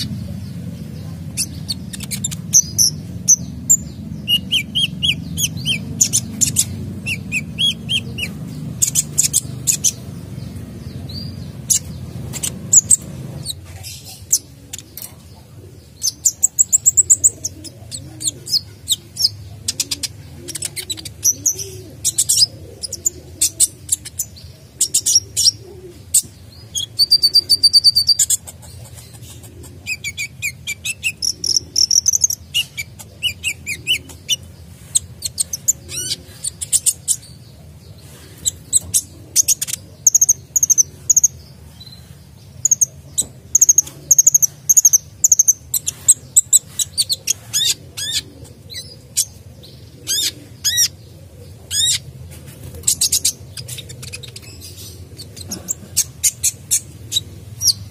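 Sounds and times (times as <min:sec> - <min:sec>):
sunbird singing: 0:00.0 - 0:57.9.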